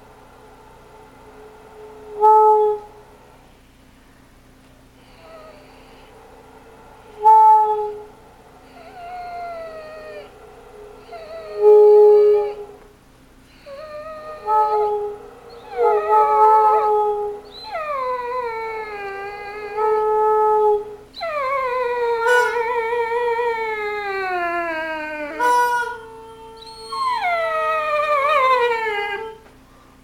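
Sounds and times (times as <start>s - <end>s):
dog howling: 0.0s - 3.5s, 5.0s - 30.0s.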